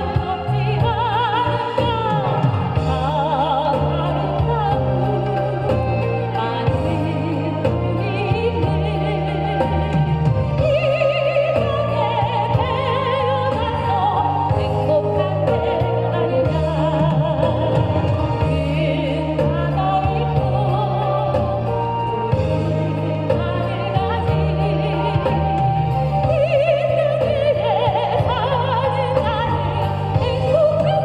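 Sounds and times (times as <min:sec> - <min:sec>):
backing music with bass line: 0:00.0 - 0:31.0
person singing with vibrato: 0:00.0 - 0:31.0.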